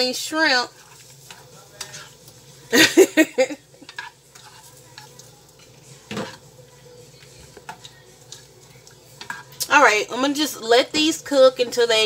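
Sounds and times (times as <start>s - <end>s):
spatula scraping a pan: 0.0s - 2.7s, 3.6s - 11.8s
shrimp sizzling in butter: 0.0s - 11.7s.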